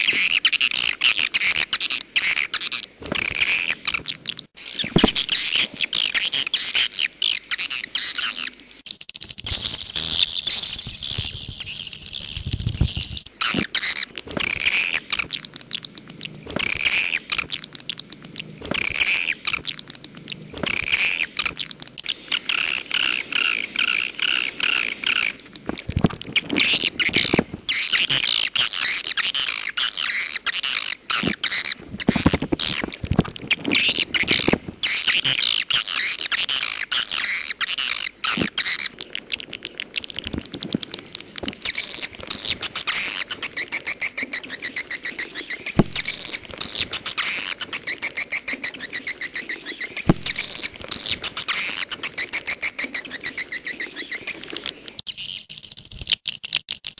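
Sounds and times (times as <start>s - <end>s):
birds chirping and clicking: 0.0s - 56.9s.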